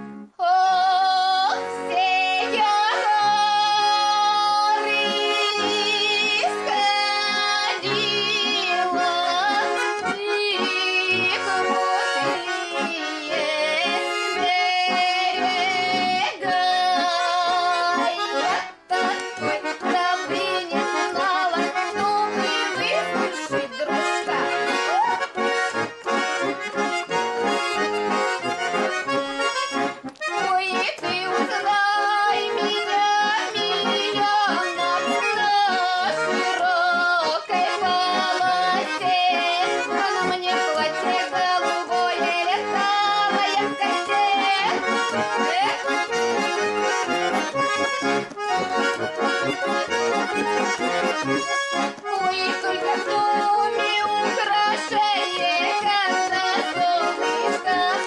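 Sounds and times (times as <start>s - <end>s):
button accordions playing folk tune: 0.0s - 58.0s
woman singing: 0.4s - 25.3s, 30.3s - 58.0s.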